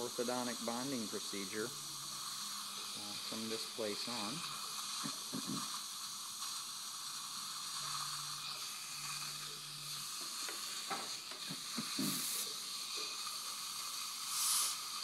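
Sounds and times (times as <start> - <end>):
dental suction hissing: 0.0 - 15.0.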